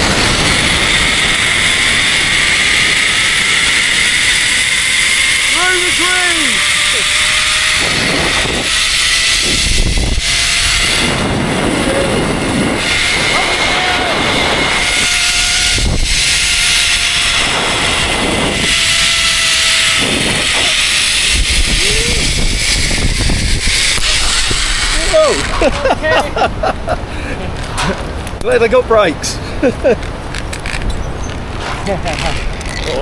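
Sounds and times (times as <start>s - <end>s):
zip line trolley whine: 0.0s - 28.5s, 29.2s - 33.0s
wind noise on microphone: 0.0s - 33.0s.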